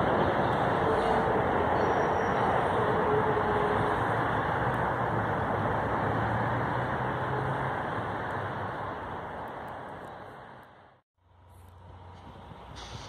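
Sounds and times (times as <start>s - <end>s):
train rumbling past: 0.0s - 10.9s
low engine hum: 0.0s - 13.0s.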